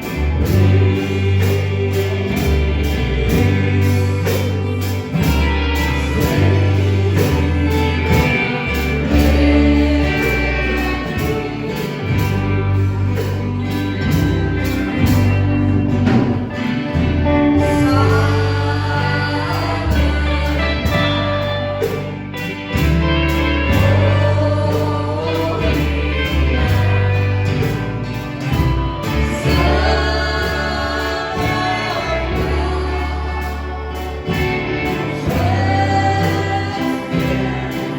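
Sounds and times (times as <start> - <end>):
gospel singing over a band: 0.0 - 37.9
sustained bass line: 0.0 - 37.9.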